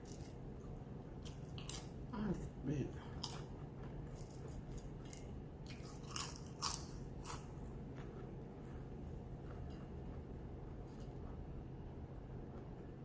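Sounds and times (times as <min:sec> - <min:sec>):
person chewing crunchy food: 0:00.0 - 0:02.1, 0:03.1 - 0:11.5.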